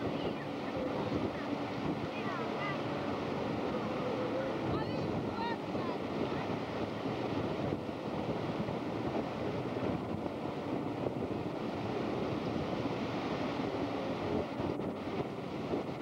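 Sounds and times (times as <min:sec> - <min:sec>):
small surf washing: 0:00.0 - 0:16.0
wind on microphone: 0:00.0 - 0:16.0.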